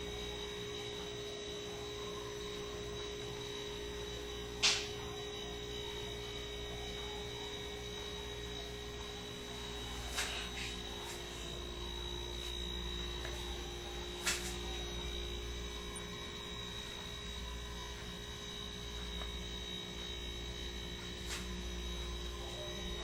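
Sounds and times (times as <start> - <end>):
faint steady tones: 0.0 - 23.0
low electrical hum: 0.0 - 23.0.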